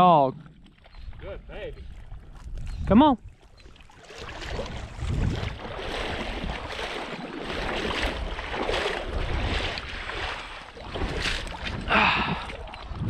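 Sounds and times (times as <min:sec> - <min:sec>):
water sloshing from wading: 0:00.1 - 0:13.0
wind buffeting microphone: 0:00.3 - 0:13.0.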